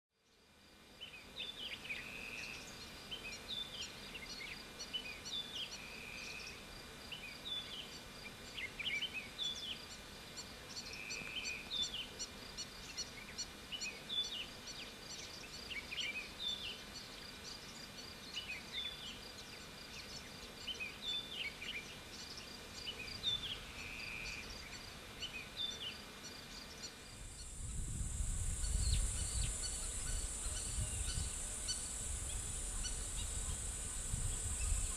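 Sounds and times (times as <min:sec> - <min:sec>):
high hiss: 0:00.6 - 0:34.9
birds chirping: 0:01.0 - 0:34.9.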